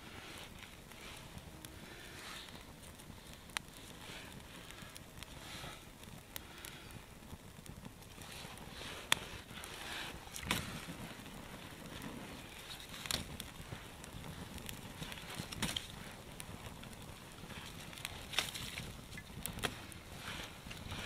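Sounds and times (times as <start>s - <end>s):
campfire crackling pops: 0.0s - 21.0s
campfire hiss: 0.0s - 21.0s.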